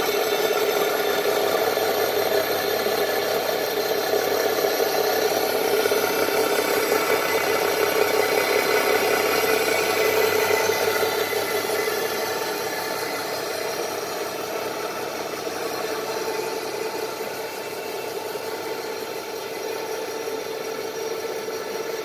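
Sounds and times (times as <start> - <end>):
machinery motor hum: 0.0 - 22.0.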